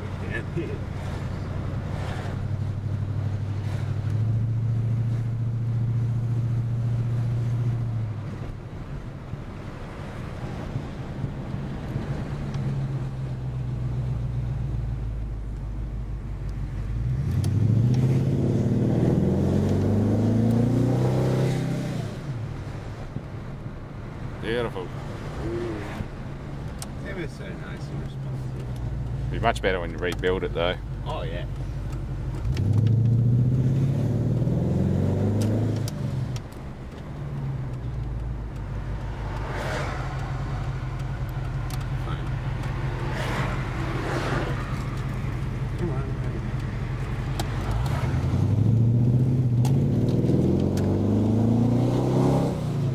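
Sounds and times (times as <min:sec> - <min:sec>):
car engine revving: 0:00.0 - 0:23.0, 0:24.4 - 0:52.9.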